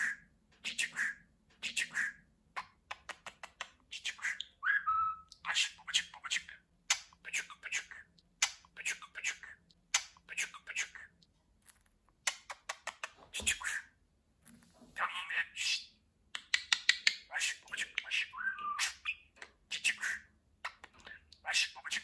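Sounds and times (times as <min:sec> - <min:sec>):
budgerigar chattering and warbling: 0:00.0 - 0:11.0, 0:12.3 - 0:14.0, 0:15.0 - 0:22.0.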